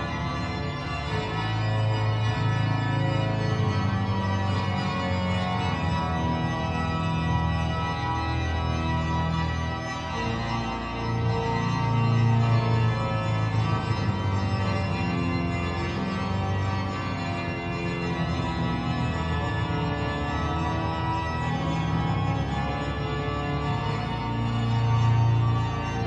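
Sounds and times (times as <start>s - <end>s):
organ playing slow chords: 0.0s - 26.0s.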